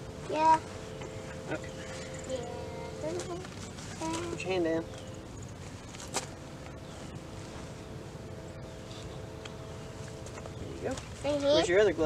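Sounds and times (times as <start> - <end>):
faint steady hum: 0.0 - 12.0
outdoor background rumble: 0.0 - 12.0.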